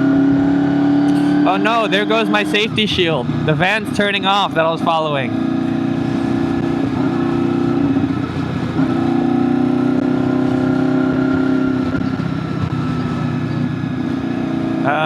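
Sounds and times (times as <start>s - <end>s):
motorcycle engine at road speed: 0.0s - 15.0s.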